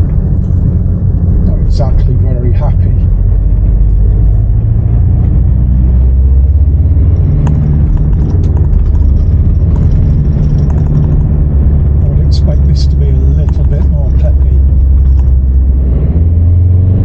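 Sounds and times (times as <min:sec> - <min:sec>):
diesel engine rumbling: 0:00.0 - 0:17.0
road noise: 0:00.0 - 0:17.0.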